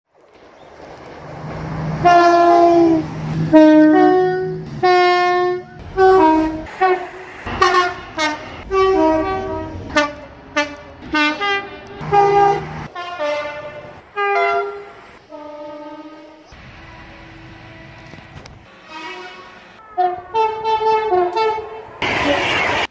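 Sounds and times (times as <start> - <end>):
two-tone train horn blasts: 2.0 - 22.8.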